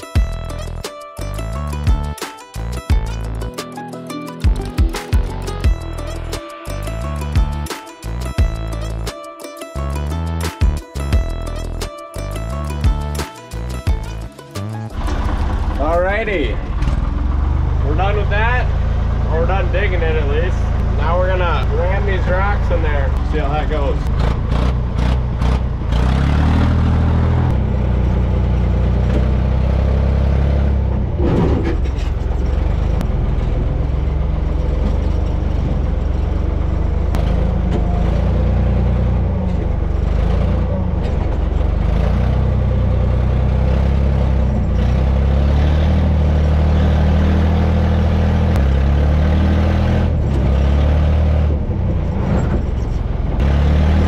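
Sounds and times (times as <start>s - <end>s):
backhoe engine running: 0.0s - 54.0s.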